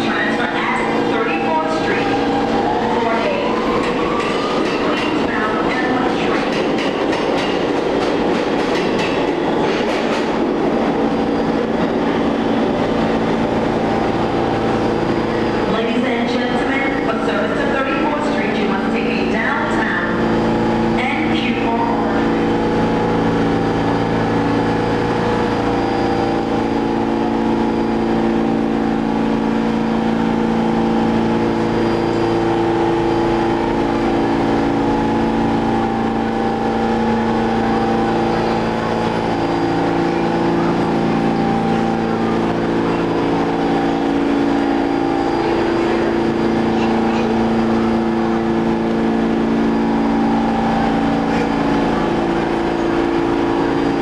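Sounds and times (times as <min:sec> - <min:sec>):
train equipment humming: 0:00.0 - 0:54.0.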